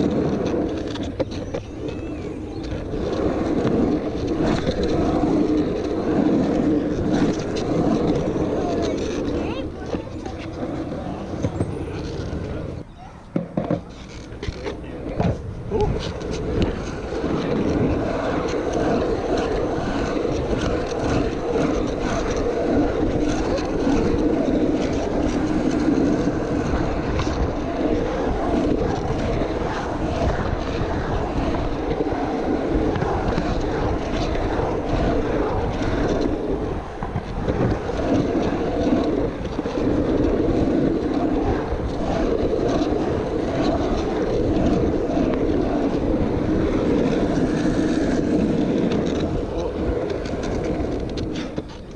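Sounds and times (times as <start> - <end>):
skateboard wheels rolling on asphalt: 0.0 - 51.9
wind on microphone: 0.0 - 51.9.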